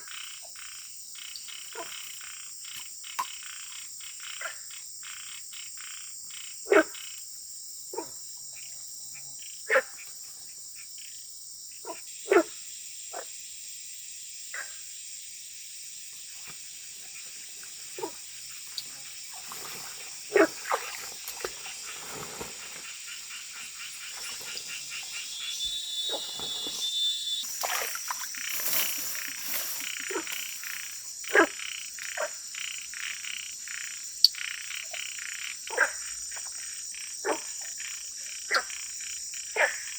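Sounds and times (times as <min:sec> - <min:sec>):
frogs croaking: 0:00.0 - 0:39.9
insect chorus: 0:00.0 - 0:39.9.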